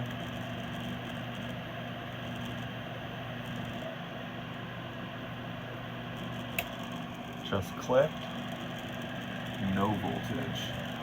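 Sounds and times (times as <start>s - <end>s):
furnace motor humming: 0.0s - 11.0s.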